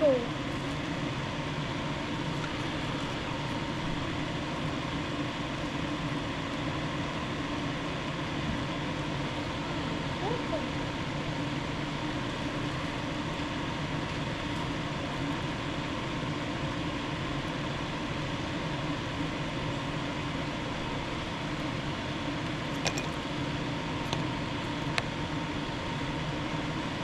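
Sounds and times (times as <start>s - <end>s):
fan whirring hum: 0.0s - 27.0s.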